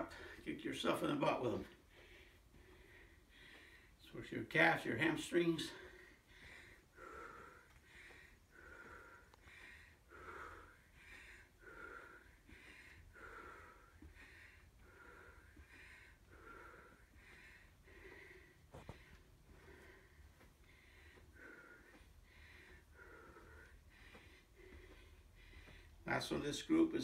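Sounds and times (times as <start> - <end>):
man breathing heavily: 0.0 - 27.0.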